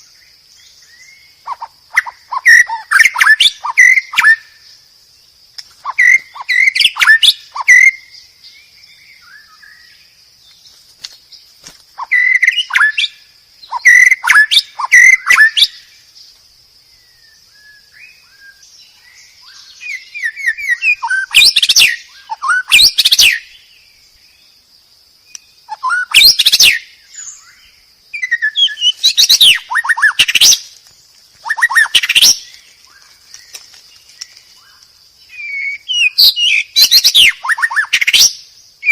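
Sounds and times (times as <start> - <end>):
bird singing whistles and trills: 0.0 - 10.6, 12.0 - 16.3, 16.9 - 24.6, 25.2 - 30.7, 31.4 - 38.9.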